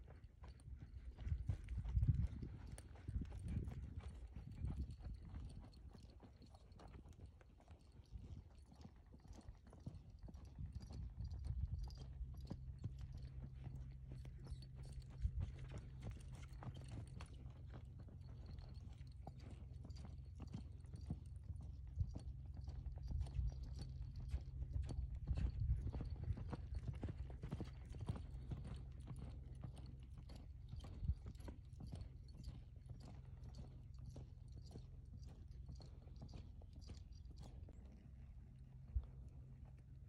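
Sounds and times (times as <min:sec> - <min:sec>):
hoofbeats on sand: 0:00.0 - 0:40.0.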